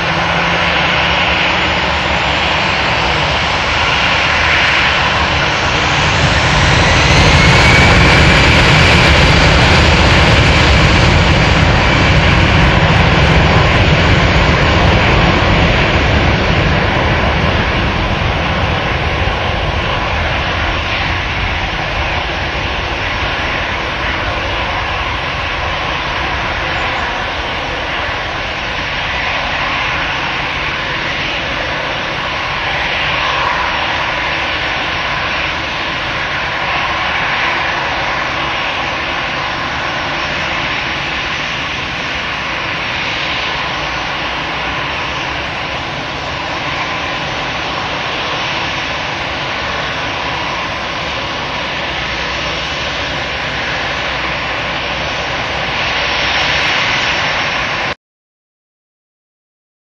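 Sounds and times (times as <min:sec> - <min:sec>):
jet engines spooling up: 0:00.0 - 0:58.0
loud jet engine noise: 0:00.0 - 0:58.0.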